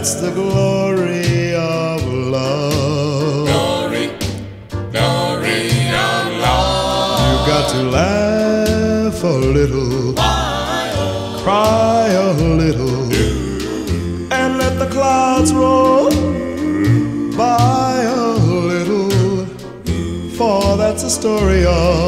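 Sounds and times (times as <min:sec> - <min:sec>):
song with melody and bass: 0:00.0 - 0:22.0.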